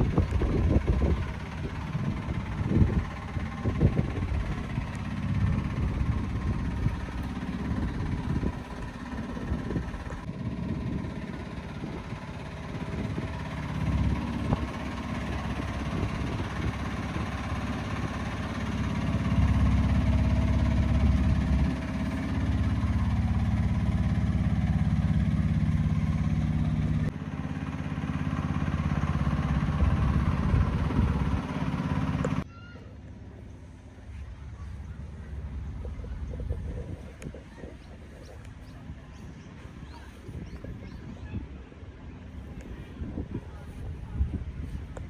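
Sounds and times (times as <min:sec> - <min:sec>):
truck diesel engine droning: 0:00.0 - 0:45.0.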